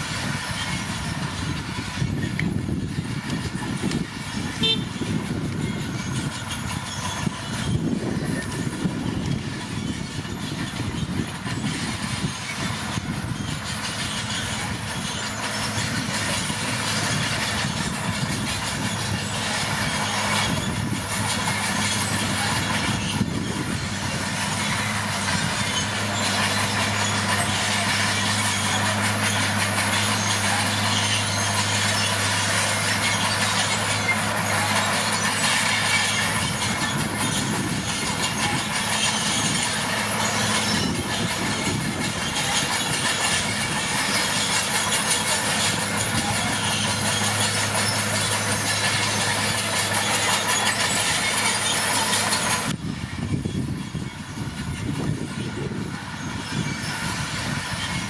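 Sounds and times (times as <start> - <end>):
bulldozer diesel engine: 0.0 - 58.0
tracks clanking: 0.0 - 58.0.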